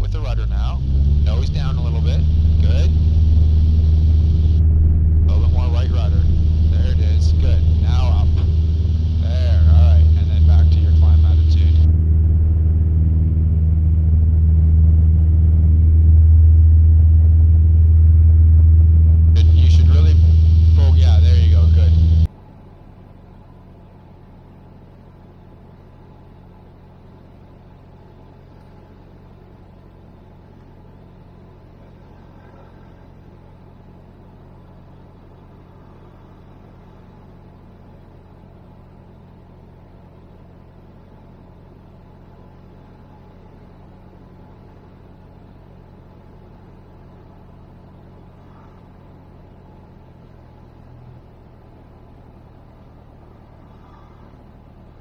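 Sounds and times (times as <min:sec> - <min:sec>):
airplane engine and propeller drone: 0:00.0 - 0:55.0.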